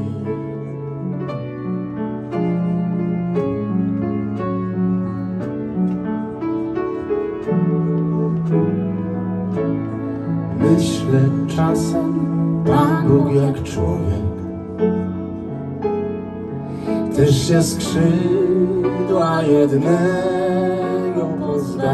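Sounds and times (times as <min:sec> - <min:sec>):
piano and keyboard chords: 0:00.0 - 0:21.9.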